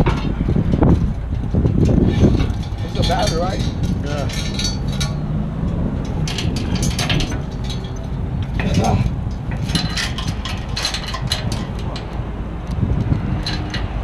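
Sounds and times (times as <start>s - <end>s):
low engine rumble: 0.0s - 14.0s
metal rigging clinking and rattling: 0.0s - 14.0s.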